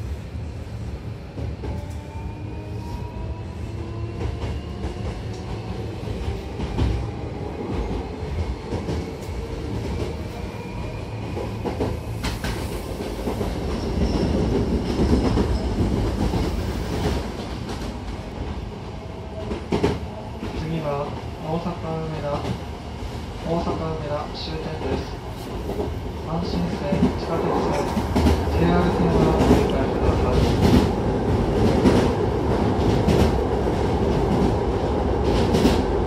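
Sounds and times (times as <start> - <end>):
train rolling rumble with wheel clatter: 0.0 - 36.0.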